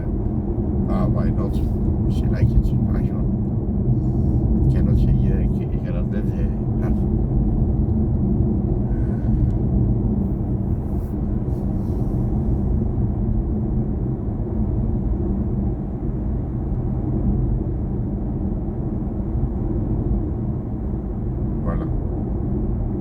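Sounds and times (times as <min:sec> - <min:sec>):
road and tyre rumble: 0:00.0 - 0:23.0.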